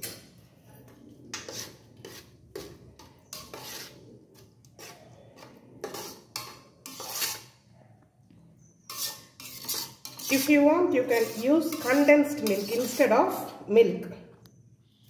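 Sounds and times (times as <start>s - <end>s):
metal spatula scraping metal pot: 0.0s - 7.7s, 8.6s - 13.7s.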